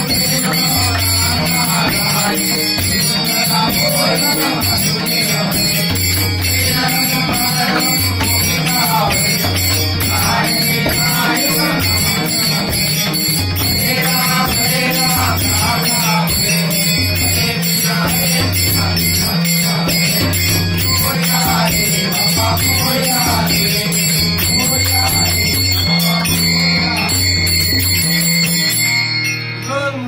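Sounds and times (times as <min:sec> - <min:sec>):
hand drum beat: 0:00.0 - 0:28.7
men singing in chorus: 0:00.0 - 0:28.8.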